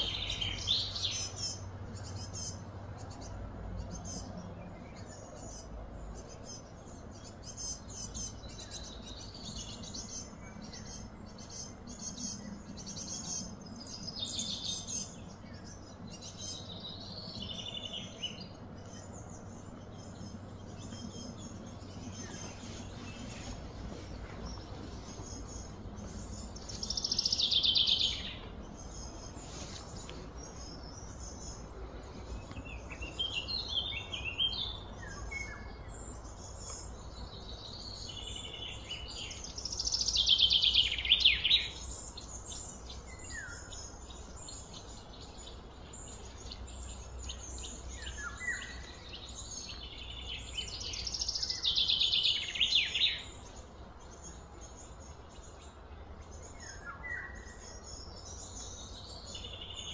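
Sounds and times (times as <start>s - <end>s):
low background rumble: 0.0s - 51.9s
trilled bird song: 0.0s - 59.9s.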